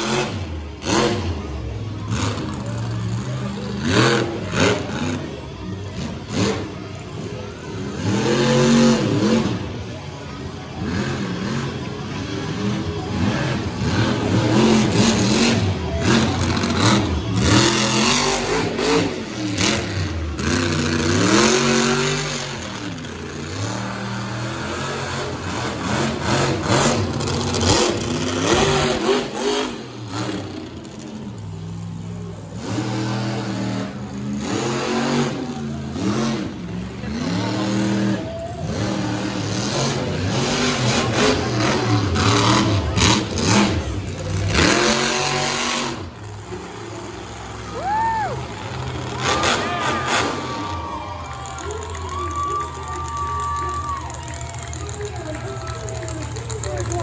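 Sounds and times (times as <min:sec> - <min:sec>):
monster truck engine revving: 0:00.0 - 0:57.0.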